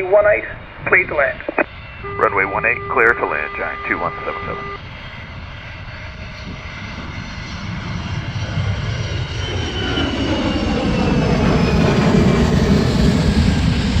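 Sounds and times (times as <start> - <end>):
jet engines of aircraft landing: 0.0 - 14.0
high engine whine: 1.5 - 14.0.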